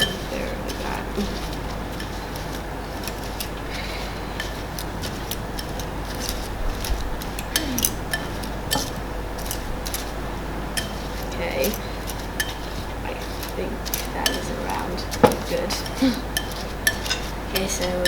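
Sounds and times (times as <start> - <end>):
utensil clinking against a bowl: 0.0 - 18.0.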